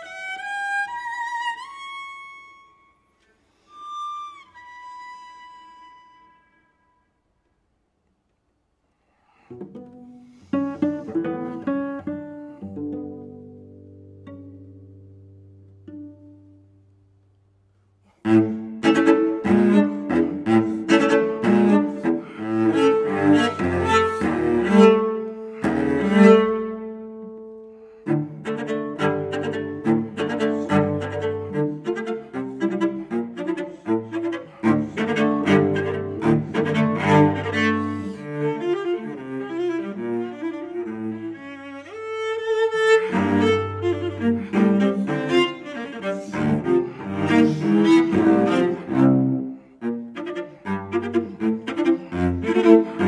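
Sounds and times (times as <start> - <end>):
bowed cello: 0.0 - 7.2, 9.2 - 17.2, 17.9 - 53.0.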